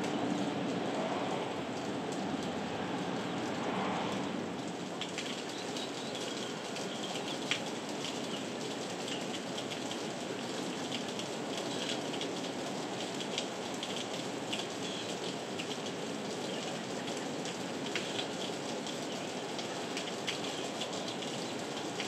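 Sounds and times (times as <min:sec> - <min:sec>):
raindrops clicking: 0:00.0 - 0:02.6, 0:03.2 - 0:22.0
heavy rain: 0:00.0 - 0:22.0.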